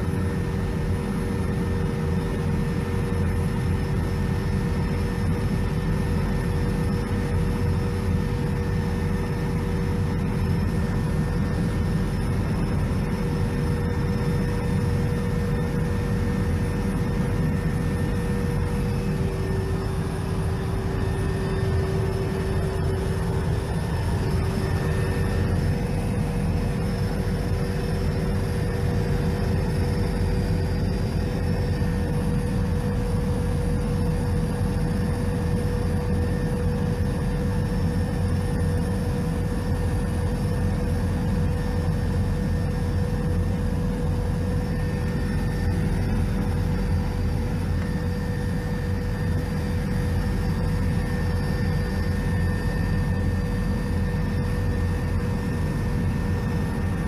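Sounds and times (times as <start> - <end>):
constant whine: 0.0 - 57.0
helicopter engine and rotor drone: 0.0 - 57.0.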